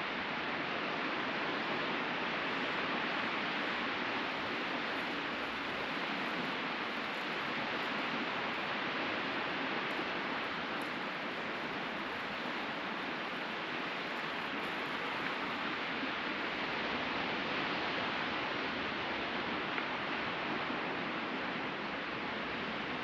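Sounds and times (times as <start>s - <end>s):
sea surf on a beach: 0.0s - 23.0s.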